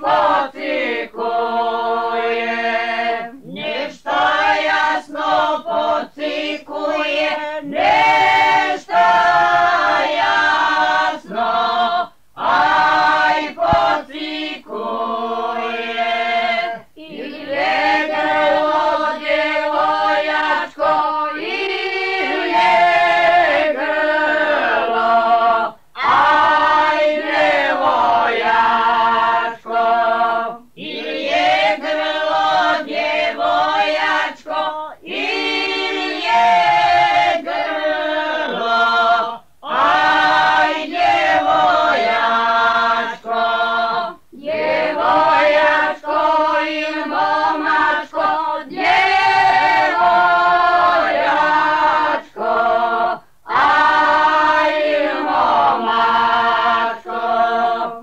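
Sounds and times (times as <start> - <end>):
vocal group singing unaccompanied: 0.0 - 58.0.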